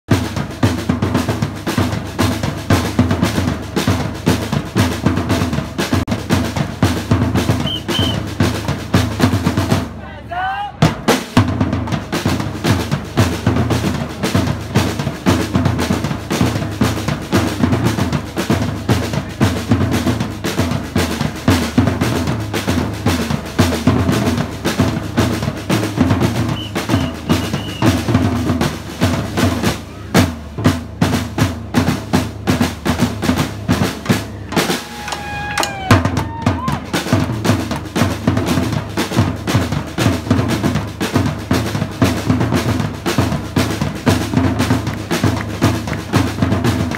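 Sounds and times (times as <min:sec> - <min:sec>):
bass drums: 0:00.0 - 0:10.1, 0:10.7 - 0:46.9
snare drums: 0:00.0 - 0:46.9.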